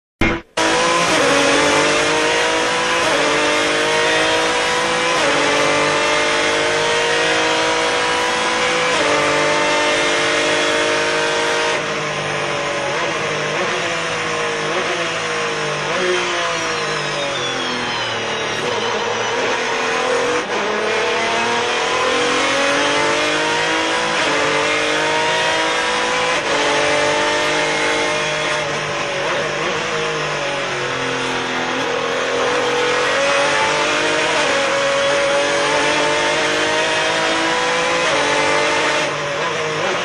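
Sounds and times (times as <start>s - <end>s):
race car engine: 0.2s - 40.0s.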